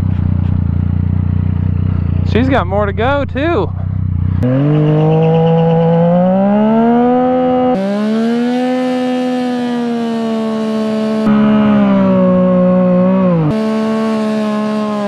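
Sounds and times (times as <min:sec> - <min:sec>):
motorcycle engine revving high: 0:00.0 - 0:15.0.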